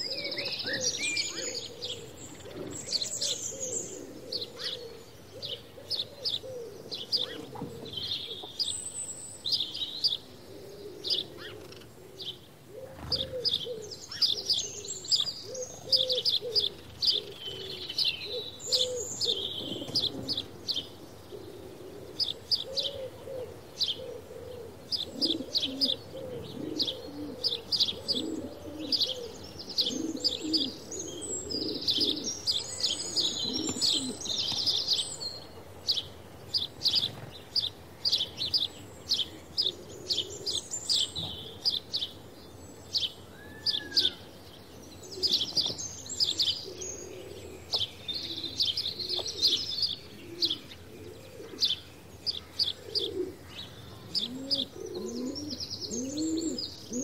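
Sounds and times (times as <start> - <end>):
sparrow chirping: 0.0 - 12.4, 13.0 - 57.0
lower bird calls: 0.0 - 57.0.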